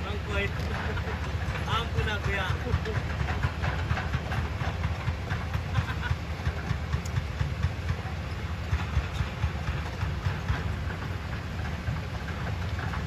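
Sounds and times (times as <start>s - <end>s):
diesel engine rumble: 0.0s - 13.0s
track chains clanking: 0.0s - 13.0s.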